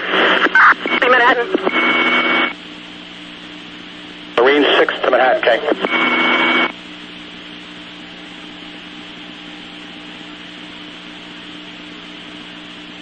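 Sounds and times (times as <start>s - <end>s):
radio static burst: 0.0s - 12.3s
steady radio hiss with low hum: 0.0s - 13.0s.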